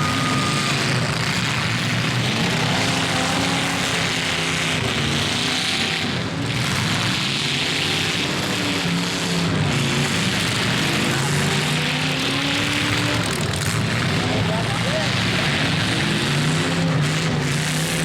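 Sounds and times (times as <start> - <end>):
crowd noise: 0.0 - 9.0, 9.6 - 17.8
car engines revving: 0.0 - 18.0.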